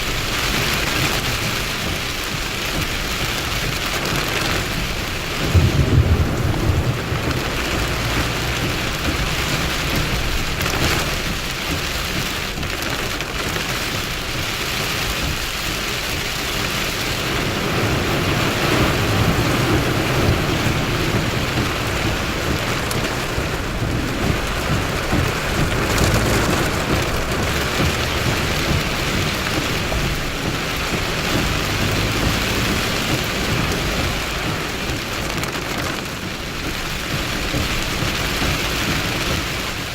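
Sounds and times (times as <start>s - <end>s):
heavy rain falling: 0.0s - 39.9s
thunder rumbles: 0.0s - 39.9s.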